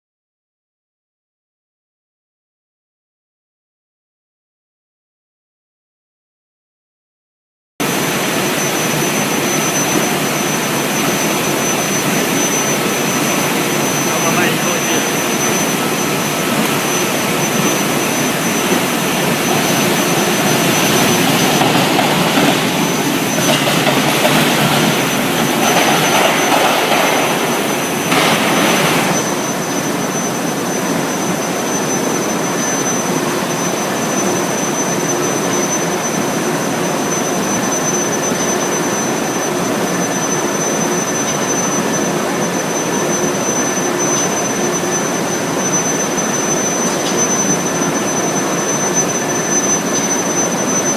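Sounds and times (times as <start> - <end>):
high-pitched whine: 7.8 - 50.9
loud industrial machinery noise: 7.8 - 50.9.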